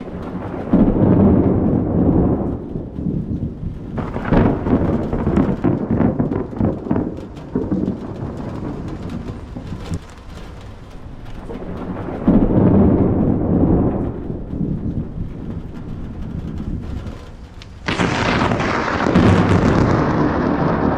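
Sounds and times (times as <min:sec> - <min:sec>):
crackling thunder peals: 0:00.0 - 0:20.9
low thunder rumble: 0:00.0 - 0:20.9.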